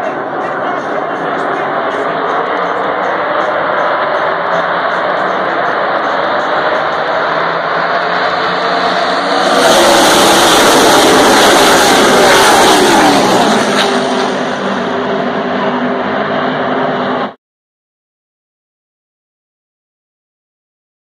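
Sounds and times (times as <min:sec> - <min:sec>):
race cars passing: 0:00.0 - 0:17.4.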